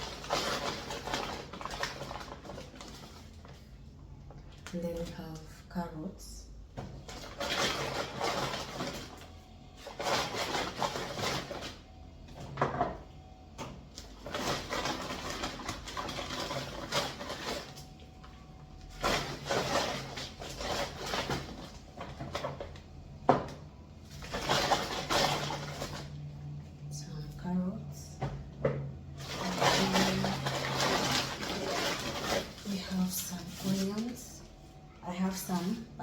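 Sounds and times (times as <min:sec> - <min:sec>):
groceries rustling: 0:00.0 - 0:28.2, 0:29.0 - 0:36.0.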